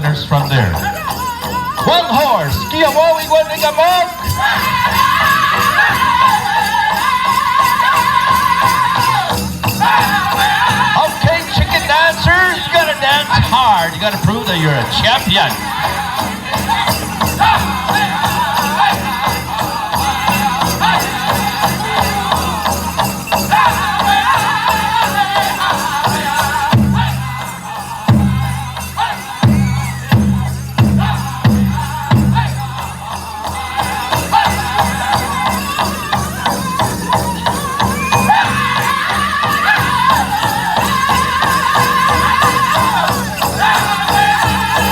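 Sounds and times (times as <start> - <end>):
bells jingling: 0.0 - 44.9
group singing: 0.0 - 44.9
big drum beating: 4.2 - 44.9.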